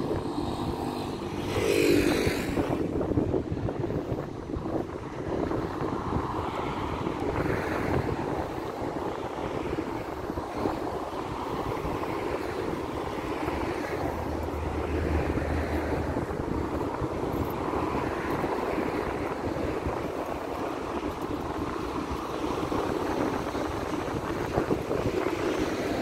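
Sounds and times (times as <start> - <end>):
passing traffic: 0.0 - 26.0
wind rumble on microphone: 0.0 - 26.0.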